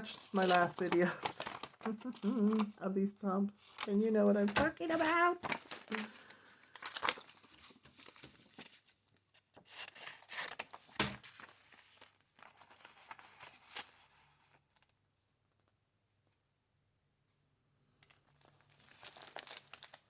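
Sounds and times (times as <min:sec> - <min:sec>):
paper rustling and crinkling: 0:00.0 - 0:02.8, 0:03.6 - 0:15.0, 0:18.1 - 0:20.0.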